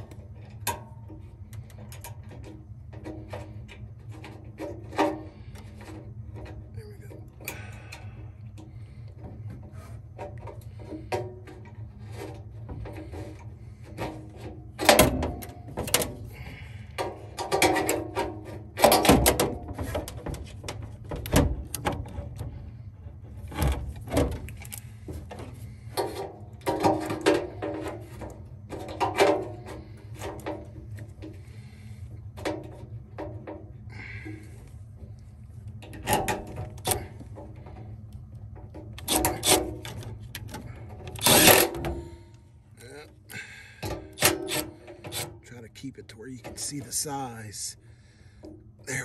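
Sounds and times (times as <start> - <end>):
clicks and rattles of metal parts: 0.0 - 47.2
steady low hum: 0.0 - 49.0.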